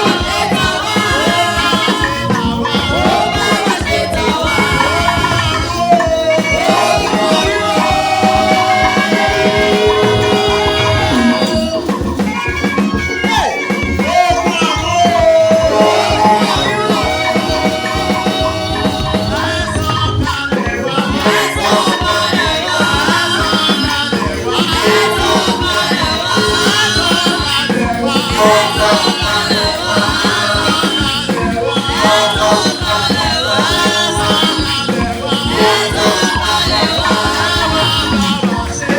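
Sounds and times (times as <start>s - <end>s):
church praise music: 0.0s - 38.9s
fast drum beat: 0.0s - 38.9s.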